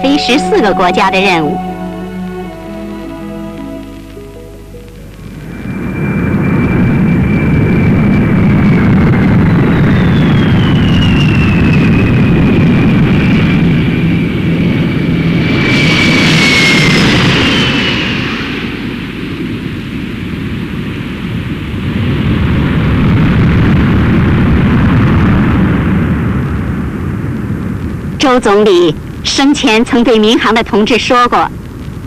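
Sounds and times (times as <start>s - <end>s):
jet engines with turbine whine: 0.0s - 32.0s.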